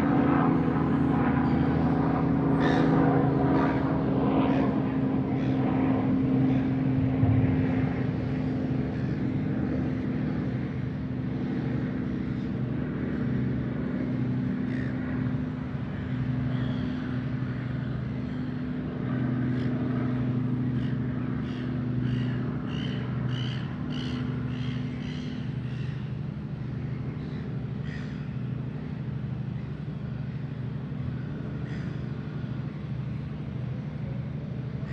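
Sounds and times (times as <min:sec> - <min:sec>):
engine drone: 0:00.0 - 0:34.9.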